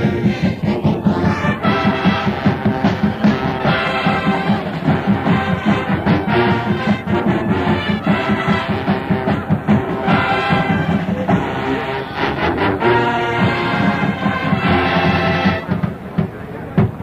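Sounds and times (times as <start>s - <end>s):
marching band brass: 0.0s - 17.0s
steady drum beat: 0.0s - 17.0s.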